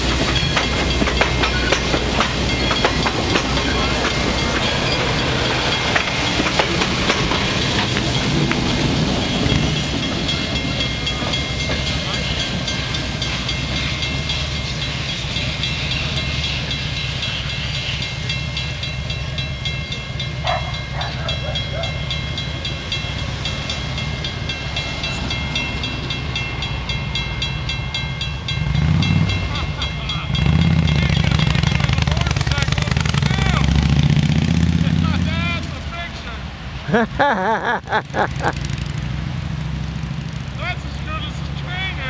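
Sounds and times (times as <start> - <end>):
train rumble: 0.0 - 42.0.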